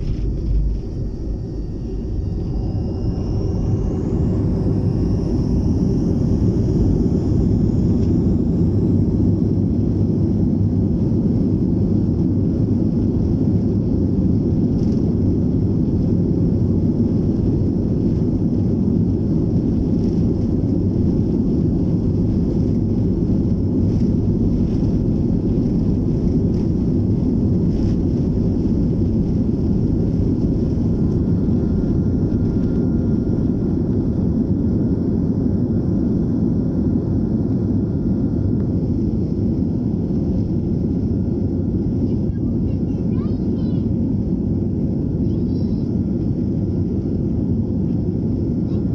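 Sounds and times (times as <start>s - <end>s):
faint high whine: 0.0s - 44.0s
jet engines rumbling: 0.0s - 48.9s.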